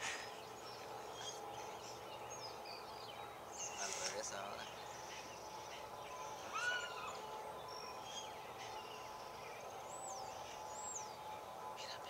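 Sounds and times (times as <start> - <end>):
bird calls: 0.0 - 12.0
outdoor background noise: 0.0 - 12.0.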